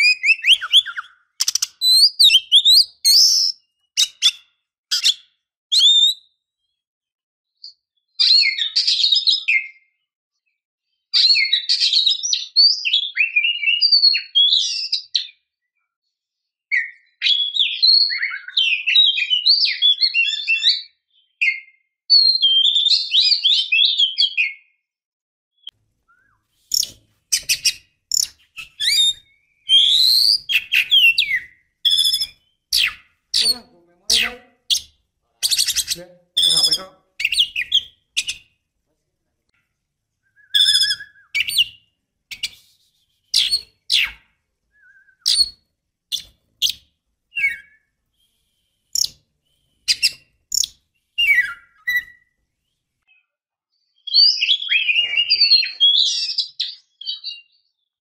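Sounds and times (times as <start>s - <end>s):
bird chirps and whistles: 0.0s - 6.4s, 11.2s - 15.4s, 16.7s - 24.7s, 26.1s - 38.5s, 40.2s - 52.4s, 54.0s - 57.7s.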